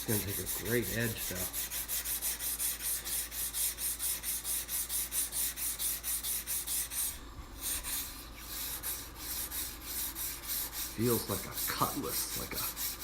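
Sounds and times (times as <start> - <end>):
knife scraping on whetstone: 0.0 - 13.0.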